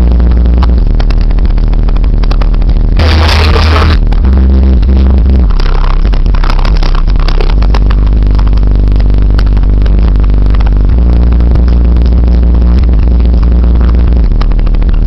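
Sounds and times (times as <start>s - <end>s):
loud deep bass from subwoofers: 0.0s - 15.0s.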